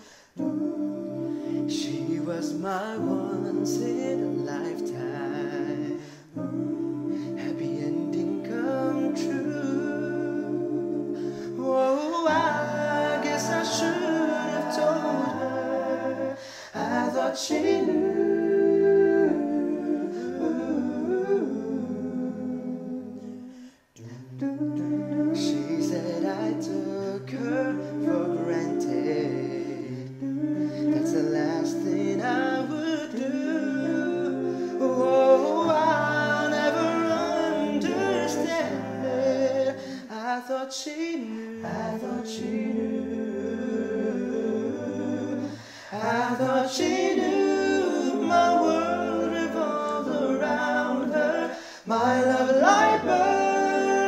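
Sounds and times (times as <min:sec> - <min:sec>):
man singing a cappella harmony: 0:00.0 - 0:54.0.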